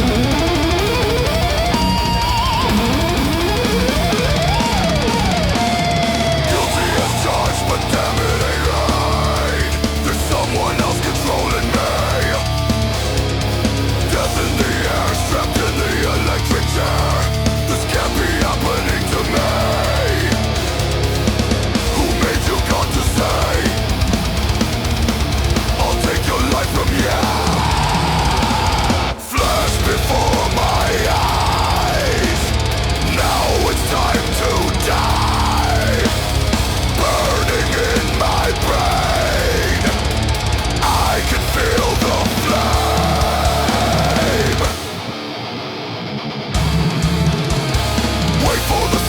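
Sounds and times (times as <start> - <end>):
heavy metal song: 0.0 - 49.0.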